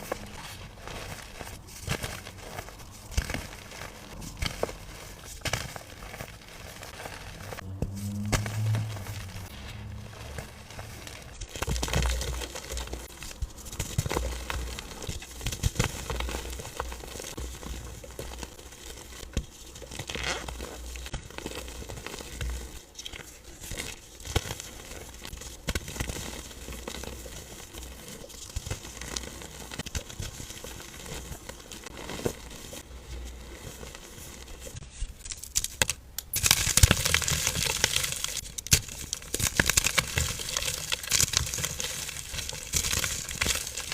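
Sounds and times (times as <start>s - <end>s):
dry powder being crushed: 0.0s - 43.9s.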